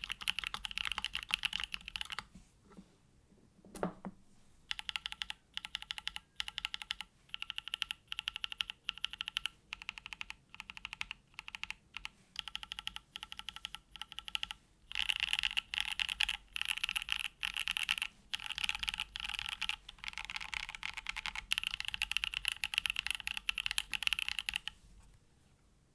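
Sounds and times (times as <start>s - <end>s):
mechanical keyboard typing: 0.0s - 2.3s, 4.7s - 24.8s.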